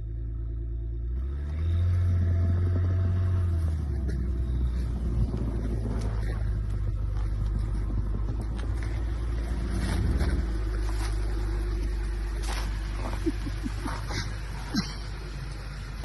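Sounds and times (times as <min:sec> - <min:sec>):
vehicle motor rumbling: 0:00.0 - 0:16.0.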